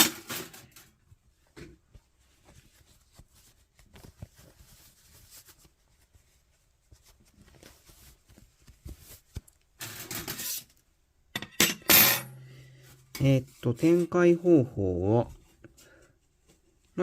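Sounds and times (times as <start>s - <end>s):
gloves rustling: 0.8s - 11.3s, 12.4s - 17.0s.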